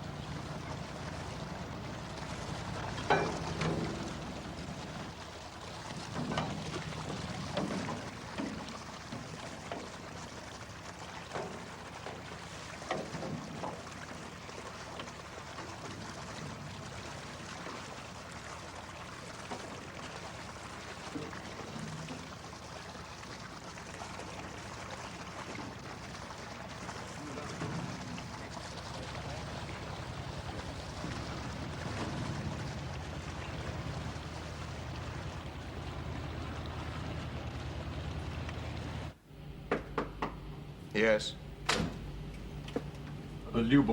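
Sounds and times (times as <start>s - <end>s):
low steady hum: 0.0s - 12.4s, 21.1s - 43.9s
water sloshing and splashing: 0.0s - 43.9s.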